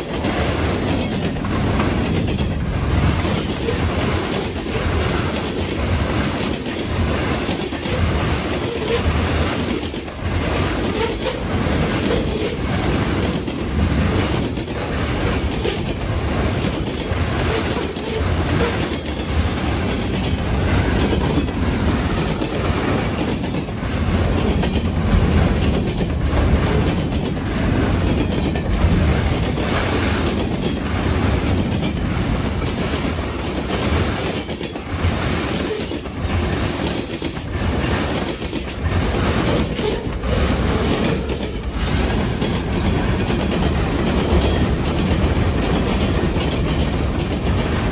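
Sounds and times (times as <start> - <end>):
low train rumble: 0.0 - 47.9
train wheels clicking over rail joints: 0.0 - 47.9.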